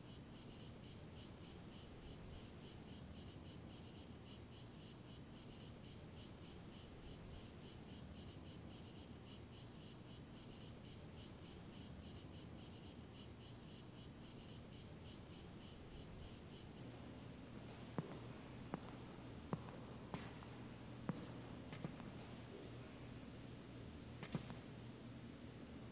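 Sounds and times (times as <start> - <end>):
cricket chirping: 0.0 - 25.9.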